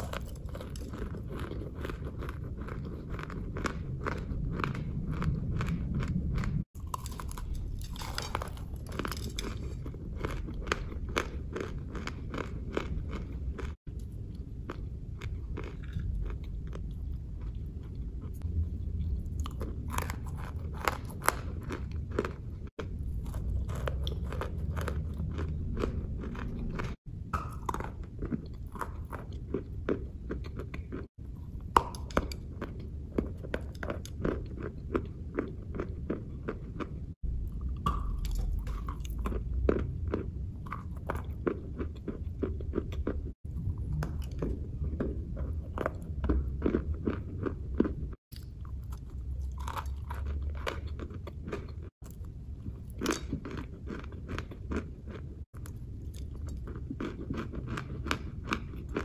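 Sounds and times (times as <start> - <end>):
chalk crunching while chewed: 0.0 - 18.4, 19.0 - 37.0, 37.8 - 59.0.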